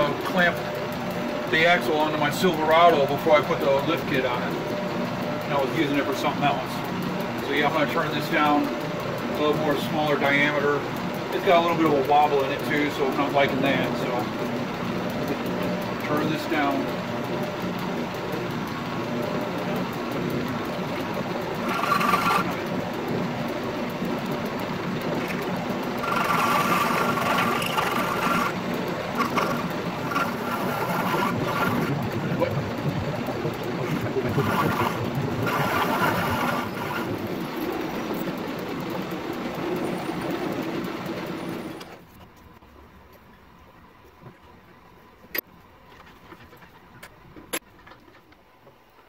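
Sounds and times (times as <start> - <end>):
lathe cutting steel rod: 0.0 - 41.9
metal lathe running: 0.0 - 42.1.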